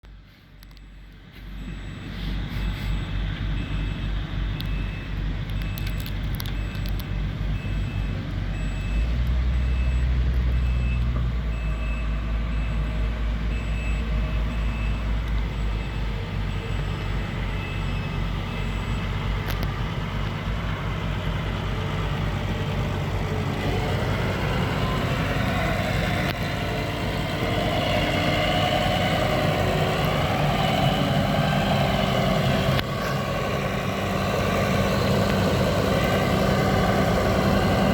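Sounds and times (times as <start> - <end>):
road roller diesel engine: 0.0 - 37.9.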